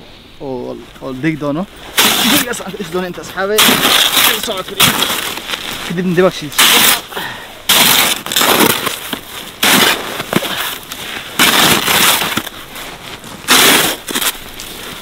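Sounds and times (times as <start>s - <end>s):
plastic scoop scraping snow: 1.8s - 7.1s, 7.7s - 15.0s.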